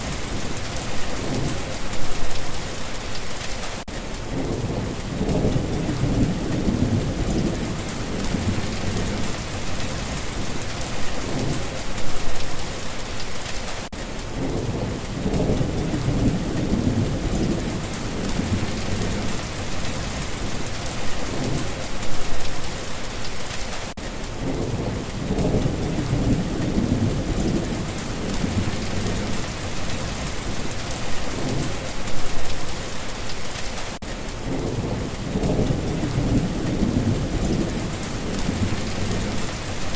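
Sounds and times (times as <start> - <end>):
thunder rumbling: 0.0 - 2.8, 4.2 - 12.8, 14.3 - 22.8, 24.4 - 32.9, 34.4 - 39.9
steady rain: 0.0 - 39.9.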